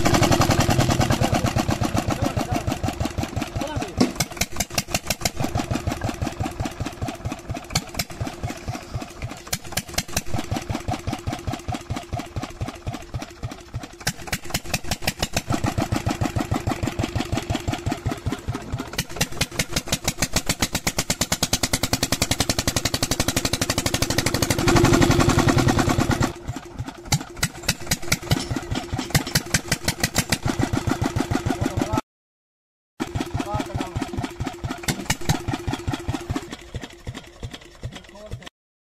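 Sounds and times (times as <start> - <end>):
stationary diesel engine chugging: 0.0 - 32.0, 33.0 - 38.5.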